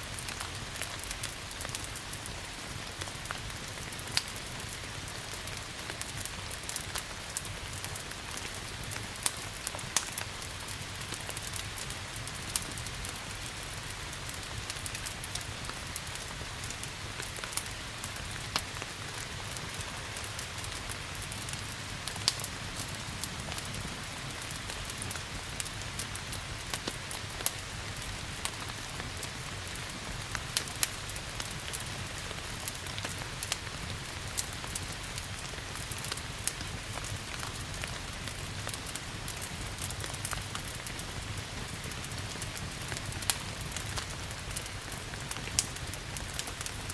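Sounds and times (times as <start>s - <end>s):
steady rain falling: 0.0s - 46.9s
wood fire crackling: 0.0s - 46.9s.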